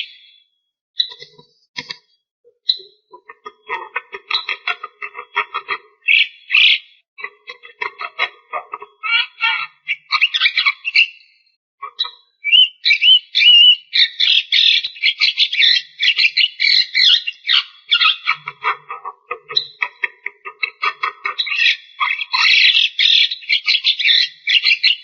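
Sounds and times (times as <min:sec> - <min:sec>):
bird chattering and whistling: 0:01.0 - 0:01.9, 0:02.7 - 0:25.0.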